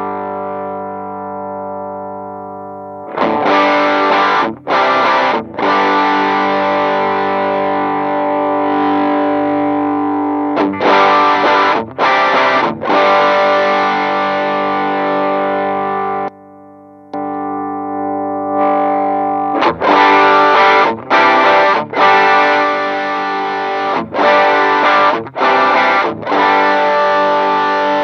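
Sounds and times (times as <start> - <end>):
overdriven electric guitar chords: 0.0 - 28.0.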